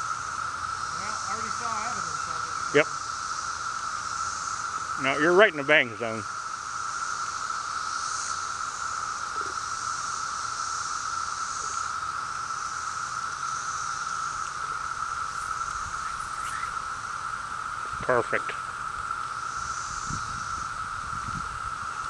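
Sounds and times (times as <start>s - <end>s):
cicadas droning: 0.0s - 22.0s
higher cicada hiss: 0.0s - 22.0s.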